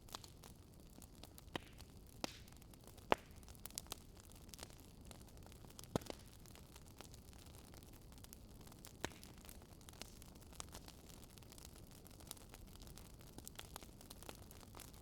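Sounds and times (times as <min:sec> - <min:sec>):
fire popping and snapping: 0:00.0 - 0:15.0
wood fire crackling: 0:00.0 - 0:15.0.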